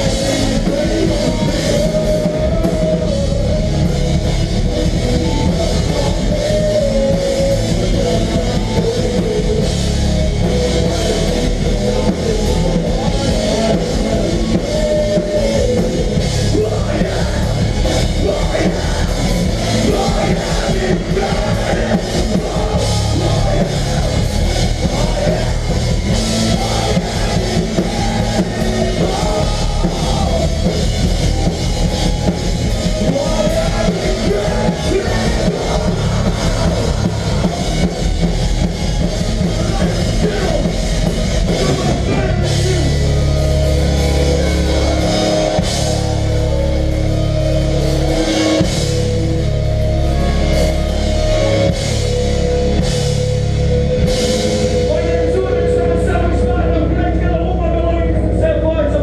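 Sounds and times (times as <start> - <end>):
hardcore band playing live: 0.0 - 59.0.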